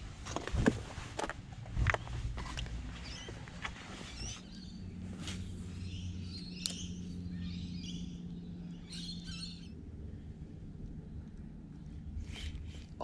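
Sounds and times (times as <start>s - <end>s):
low steady hum: 0.0s - 13.0s
small birds chirping: 1.9s - 13.0s.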